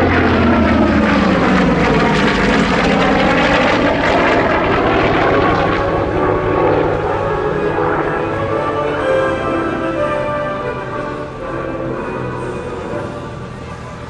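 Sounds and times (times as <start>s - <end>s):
propeller plane engine landing: 0.0s - 14.0s.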